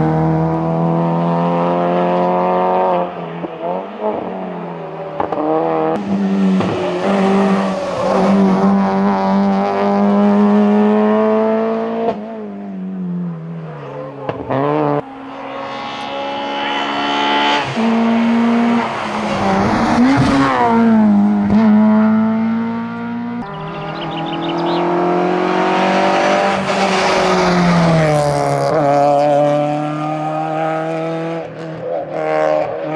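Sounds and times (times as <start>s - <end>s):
car engine at high revs: 0.0s - 32.9s.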